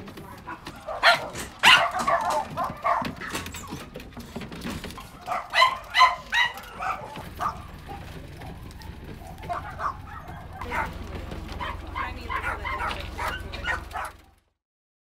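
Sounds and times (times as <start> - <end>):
dogs barking: 0.0 - 14.4.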